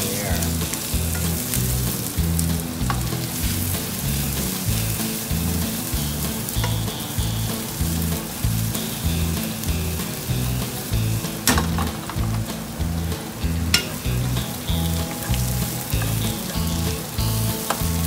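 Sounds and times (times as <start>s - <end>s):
background music bass beat: 0.0s - 18.0s
onions sizzling in a pan: 0.0s - 18.0s.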